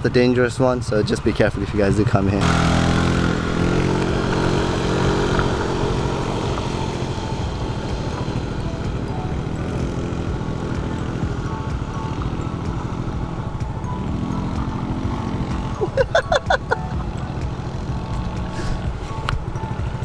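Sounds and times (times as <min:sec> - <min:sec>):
small motorcycle engine running: 0:00.6 - 0:20.0.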